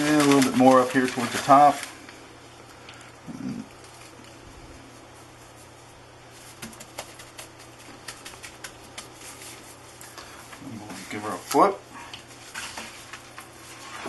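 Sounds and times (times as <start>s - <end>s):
plastic gloves crackling: 0.0s - 14.0s.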